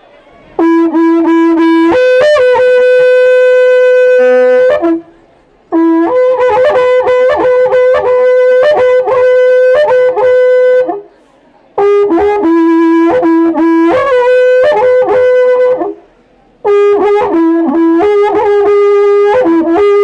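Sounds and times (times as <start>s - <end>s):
horn trumpet blown: 0.0s - 11.1s, 11.8s - 20.0s.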